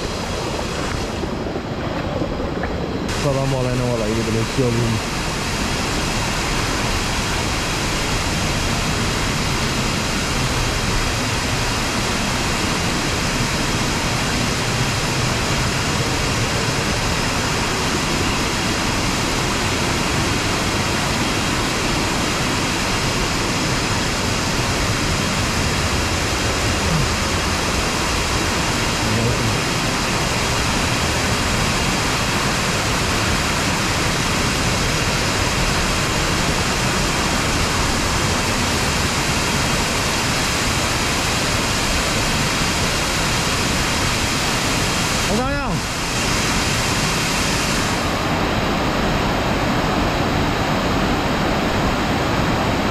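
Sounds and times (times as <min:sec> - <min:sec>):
waterfall and river rushing: 0:00.0 - 0:52.9.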